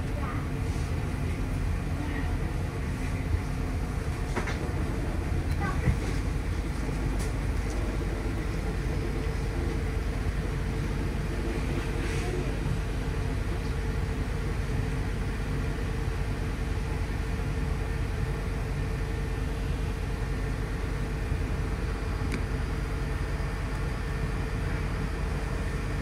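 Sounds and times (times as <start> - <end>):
constant hum: 0.0 - 26.0
road vehicle rumble: 0.0 - 26.0.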